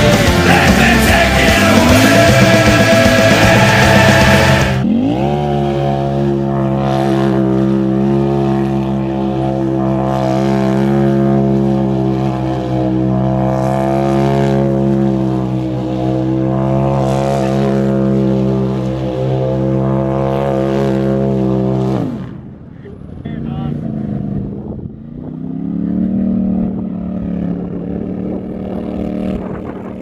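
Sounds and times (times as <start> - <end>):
vehicle engine running hard: 0.0 - 30.0.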